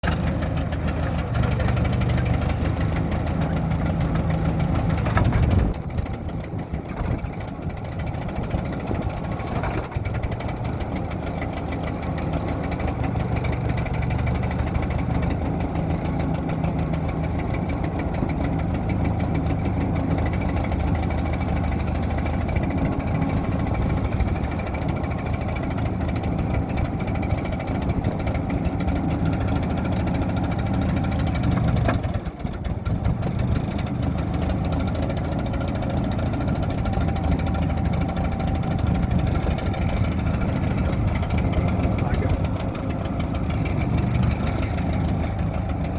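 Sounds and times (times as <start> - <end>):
backhoe engine running: 0.0 - 45.9.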